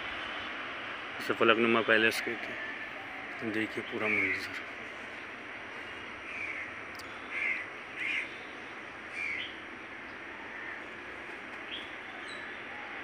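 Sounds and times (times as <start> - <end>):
steady hiss: 0.0 - 13.0
short bird calls: 2.5 - 13.0.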